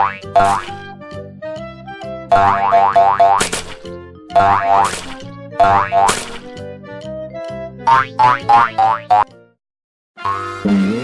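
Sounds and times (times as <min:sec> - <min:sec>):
bouncy children's music: 0:00.0 - 0:09.4.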